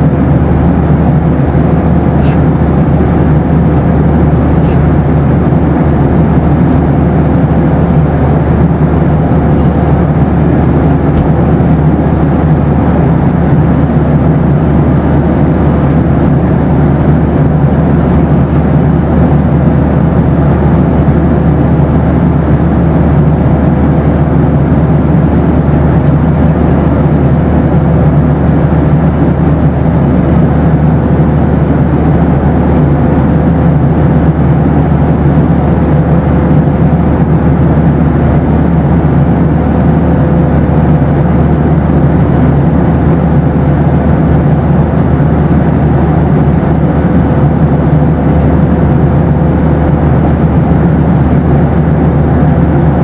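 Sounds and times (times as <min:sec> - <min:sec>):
airplane cabin rumble: 0:00.0 - 0:53.0.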